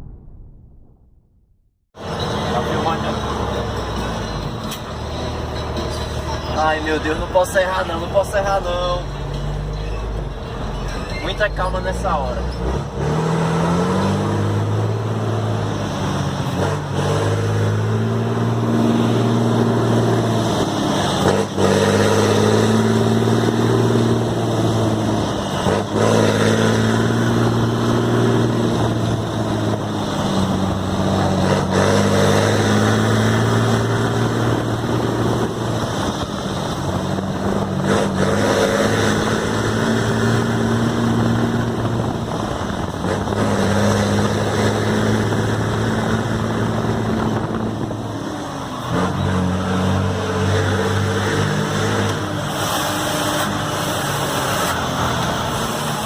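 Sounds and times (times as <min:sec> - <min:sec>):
diesel truck engine accelerating: 0:02.0 - 0:56.0.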